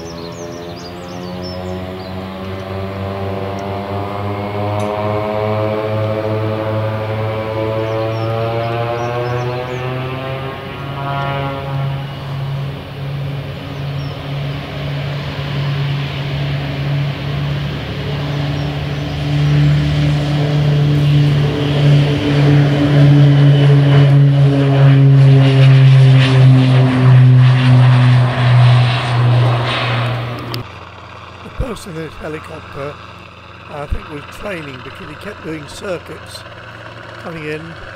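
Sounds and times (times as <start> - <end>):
turboprop engine drone: 0.0 - 37.9.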